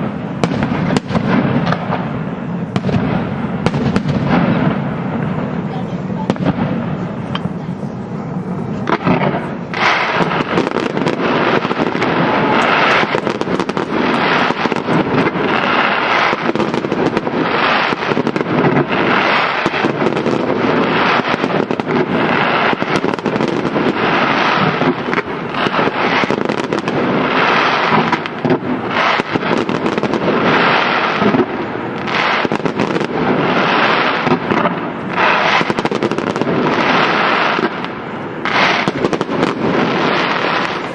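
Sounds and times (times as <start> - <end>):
firecracker bangs and crackling: 0.0 - 40.9.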